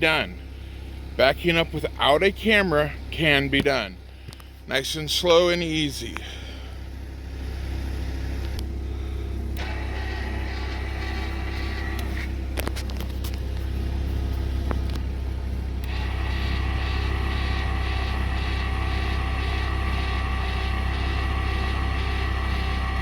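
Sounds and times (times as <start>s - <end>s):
higher motor whine: 0.0s - 23.0s
truck engine idling: 0.0s - 23.0s.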